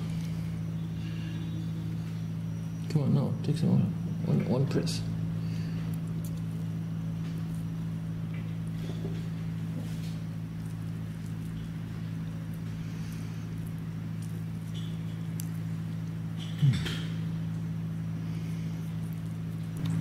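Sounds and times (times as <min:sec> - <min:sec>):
low layered hum: 0:00.0 - 0:20.0.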